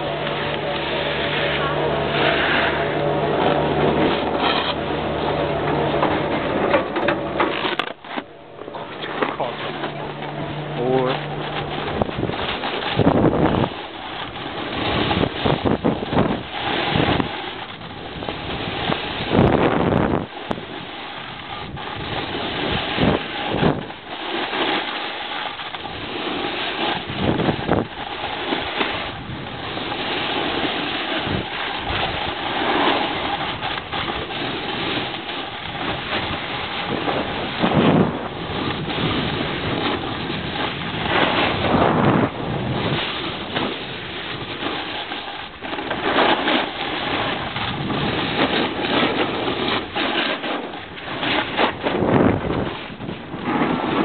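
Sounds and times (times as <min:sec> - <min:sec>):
wind buffeting microphone: 0:00.0 - 0:24.2, 0:25.6 - 0:54.0
skis sliding over snow: 0:00.0 - 0:54.0.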